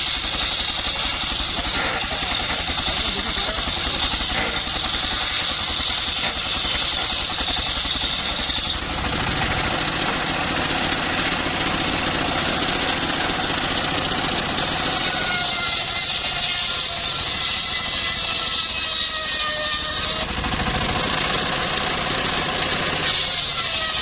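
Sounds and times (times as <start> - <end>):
high saw whine: 0.0 - 24.0
sawmill engine running: 0.0 - 24.0.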